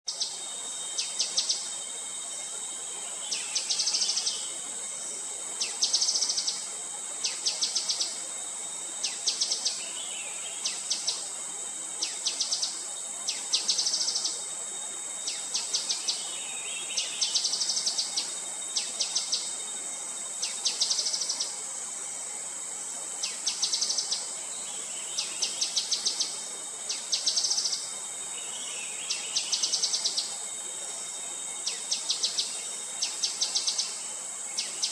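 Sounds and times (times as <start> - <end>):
high insect drone: 0.1 - 34.9.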